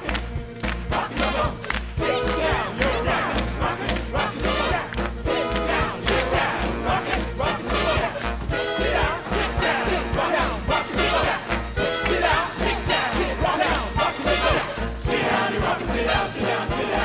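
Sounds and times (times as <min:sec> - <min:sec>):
swing band playing: 0:00.0 - 0:17.0.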